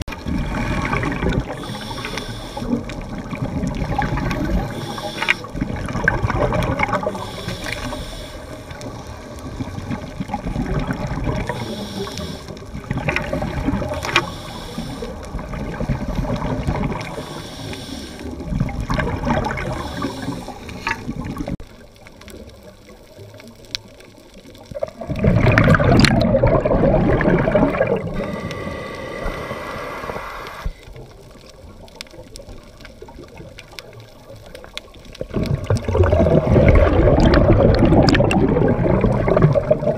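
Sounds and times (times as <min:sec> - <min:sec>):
underwater regulator bubbles: 0:00.0 - 0:39.9.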